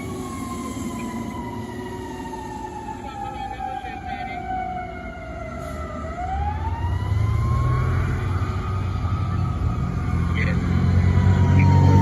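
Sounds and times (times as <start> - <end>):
fire engine siren wailing: 0.0 - 12.0
truck engine rumbling: 0.0 - 12.0.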